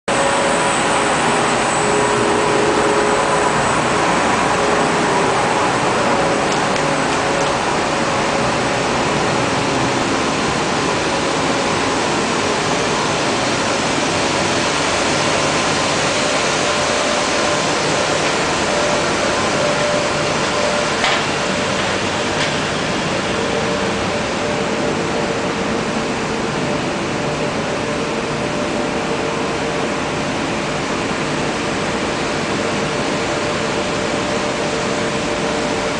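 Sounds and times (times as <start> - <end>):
diesel engines running: 0.1 - 35.9.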